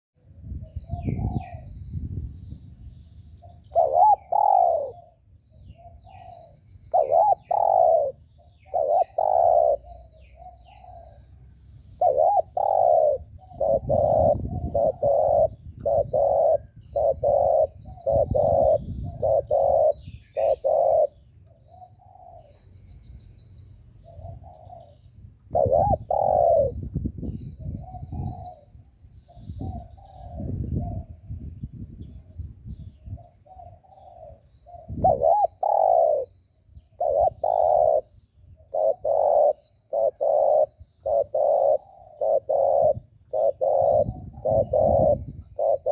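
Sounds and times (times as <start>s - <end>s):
dove cooing: 3.4s - 11.4s, 12.0s - 22.8s, 24.0s - 31.2s, 33.2s - 45.9s.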